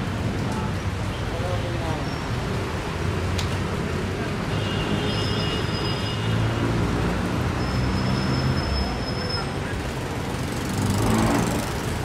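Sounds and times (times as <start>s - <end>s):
traffic engines humming: 0.0s - 12.0s.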